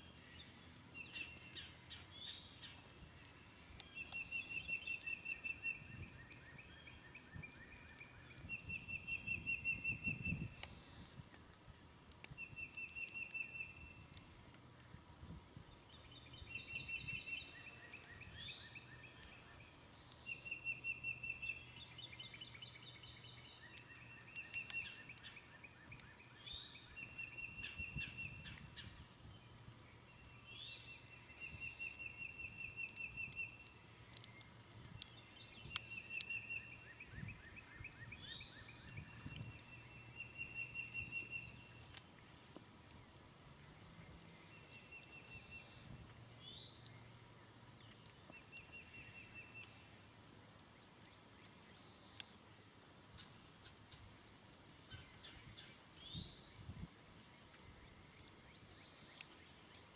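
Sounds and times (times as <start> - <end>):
birds singing trills: 0.0 - 11.0, 12.3 - 14.2, 15.9 - 42.0, 42.9 - 50.0, 54.8 - 59.9
faint campfire crackles: 0.0 - 59.9.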